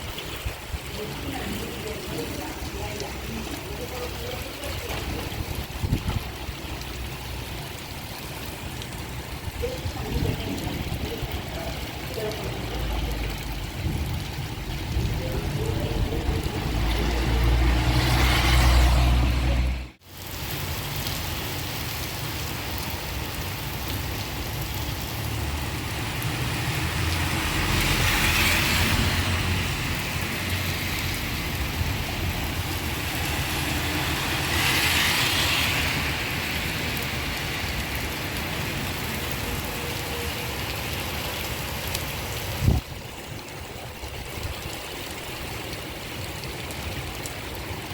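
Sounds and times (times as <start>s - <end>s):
steady rain: 0.0s - 47.9s
vehicles passing on wet road: 0.0s - 47.9s.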